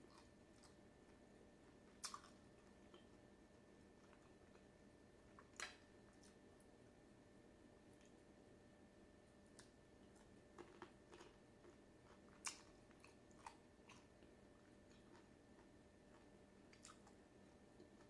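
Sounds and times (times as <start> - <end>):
person chewing food: 0.0 - 6.4, 9.4 - 18.0
faint steady hum: 0.0 - 18.0.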